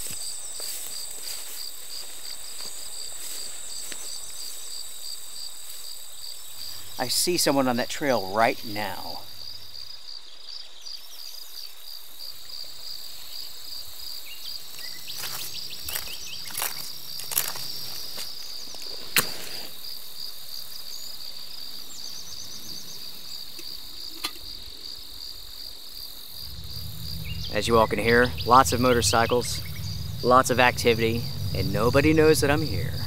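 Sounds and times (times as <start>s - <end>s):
crickets and insects chorus: 0.0s - 33.0s.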